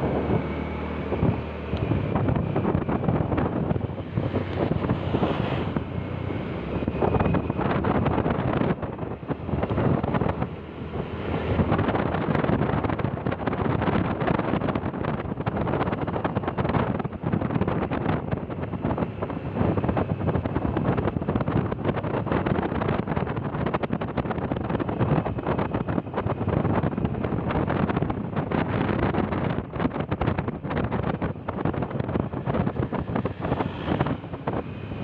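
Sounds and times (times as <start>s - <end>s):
vehicle engine rumble: 0.0s - 35.0s
wind buffeting microphone: 0.0s - 35.0s.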